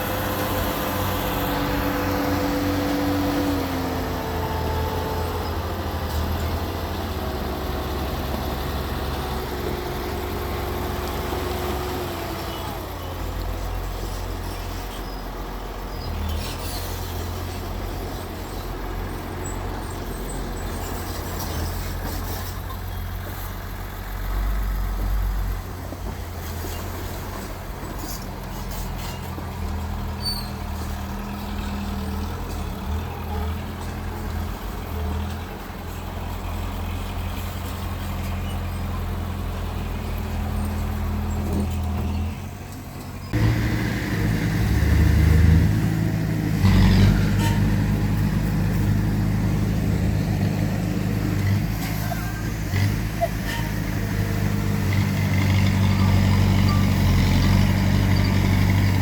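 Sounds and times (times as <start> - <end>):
diesel machinery engine droning: 0.0 - 59.0.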